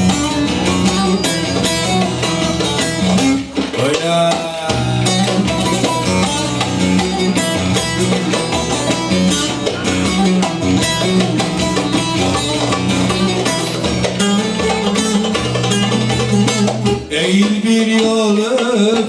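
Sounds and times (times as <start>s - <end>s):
plucked string folk music: 0.0s - 19.0s.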